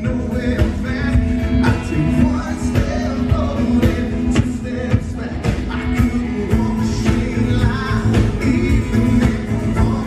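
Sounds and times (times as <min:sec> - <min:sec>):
live country band playing: 0:00.0 - 0:10.0
person singing: 0:00.0 - 0:10.0
steady drum beat: 0:00.0 - 0:10.0.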